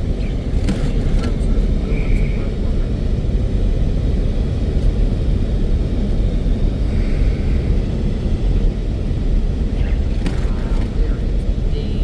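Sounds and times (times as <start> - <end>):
strong gusting wind: 0.0 - 12.0.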